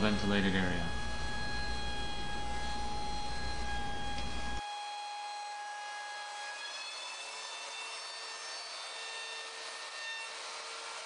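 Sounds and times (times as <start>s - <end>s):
trim router whining: 0.0s - 11.0s.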